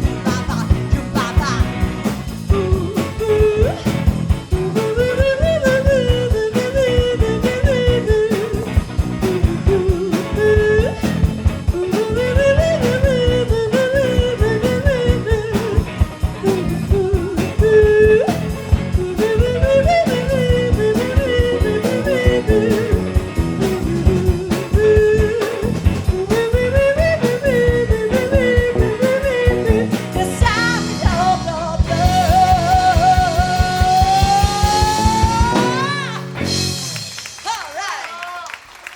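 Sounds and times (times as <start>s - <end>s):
blues band playing: 0.0s - 38.9s.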